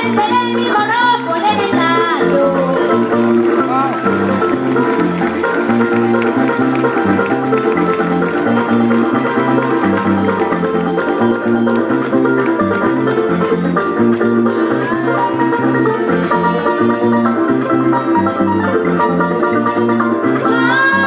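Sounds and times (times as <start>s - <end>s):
folk dance music: 0.0s - 21.0s
plucked strings: 0.0s - 21.0s
repeating bass line: 0.0s - 21.0s.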